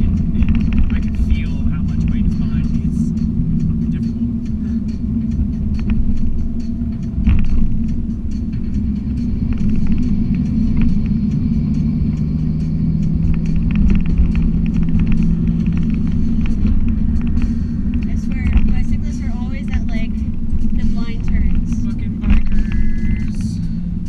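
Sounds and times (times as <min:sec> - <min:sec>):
car road and engine rumble: 0:00.0 - 0:24.0
steady hum: 0:00.0 - 0:24.0.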